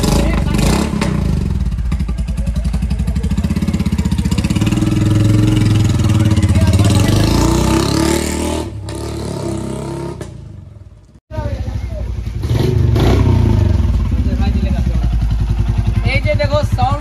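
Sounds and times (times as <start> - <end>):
motorcycle exhaust thumping: 0.0 - 17.0.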